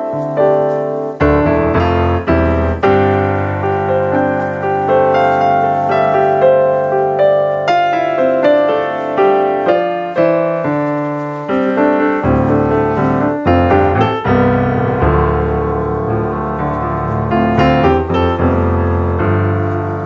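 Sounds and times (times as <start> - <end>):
piano notes and chords: 0.0 - 20.0.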